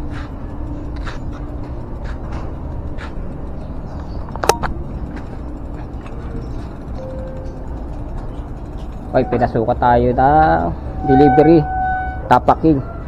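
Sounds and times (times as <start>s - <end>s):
wind and road rumble: 0.0s - 13.0s.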